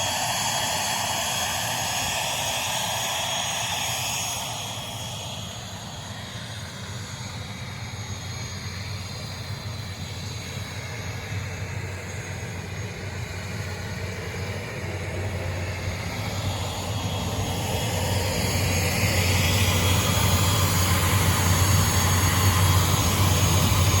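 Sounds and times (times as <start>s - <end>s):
jet engine hum and whine: 0.0s - 24.0s.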